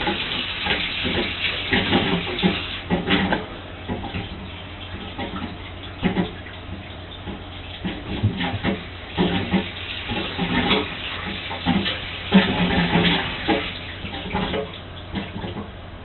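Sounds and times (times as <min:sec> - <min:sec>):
bathwater splashing: 0:00.0 - 0:16.0
steady low hum: 0:00.0 - 0:16.0.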